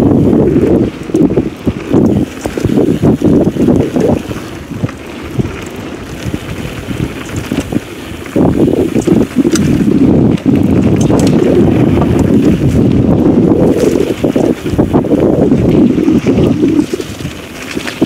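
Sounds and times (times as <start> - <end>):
bike rattling over bumps: 0.0 - 18.0
bike tyres on gravel: 0.0 - 18.0
wind buffeting microphone: 0.0 - 18.0.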